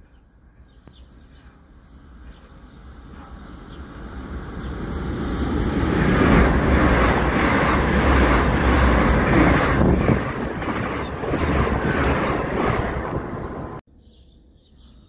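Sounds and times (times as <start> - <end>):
train wheels rushing on rails: 1.4 - 13.8.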